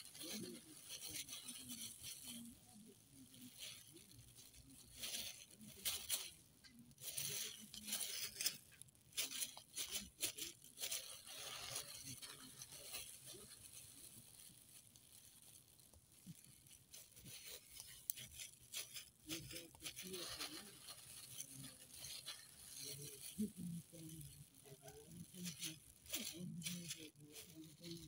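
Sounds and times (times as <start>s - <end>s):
plastic gloves and bag crinkling: 0.0s - 28.0s.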